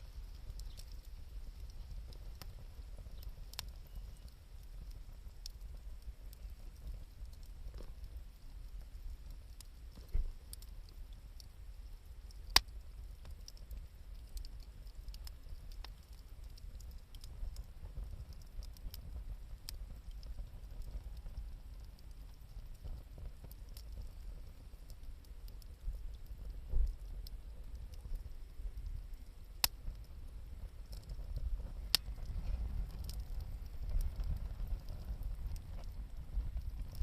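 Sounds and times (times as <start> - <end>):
campfire crackling and popping: 0.0 - 37.0
low steady rumble: 0.0 - 37.0.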